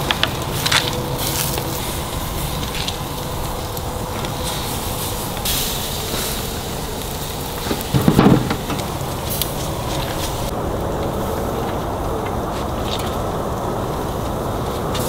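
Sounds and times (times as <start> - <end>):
oysters sizzling on a grill: 0.0 - 15.0.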